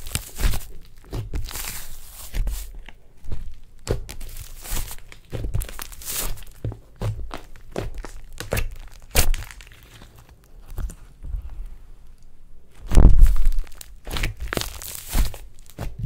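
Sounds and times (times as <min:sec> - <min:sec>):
slime squishing and popping: 0:00.0 - 0:10.9, 0:12.8 - 0:16.0
slime stretching and tearing: 0:00.0 - 0:11.2, 0:12.7 - 0:16.0.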